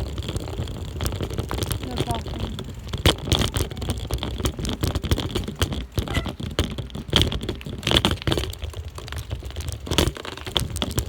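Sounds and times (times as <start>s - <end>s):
bicycle rattling over rough ground: 0.0s - 11.0s.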